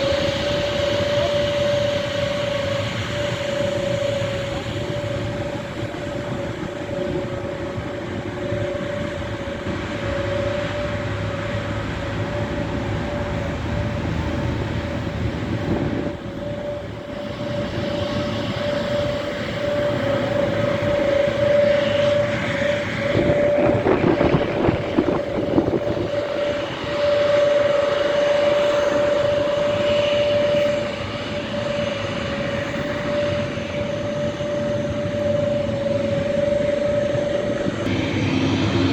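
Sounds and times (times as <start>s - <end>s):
jet engines whining and rumbling: 0.0s - 38.9s.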